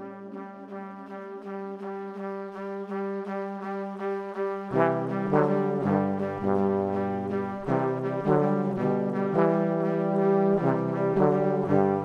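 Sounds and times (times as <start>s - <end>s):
pulse of repeated notes: 0.0s - 12.0s
sustained brass chords: 0.0s - 12.0s.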